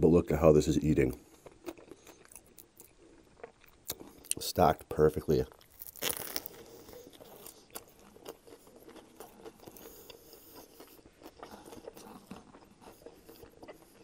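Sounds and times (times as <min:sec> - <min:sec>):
crunches and crackles of chips: 0:00.8 - 0:14.0
biting and chewing crunchy sandwich: 0:00.9 - 0:04.5, 0:05.4 - 0:14.0.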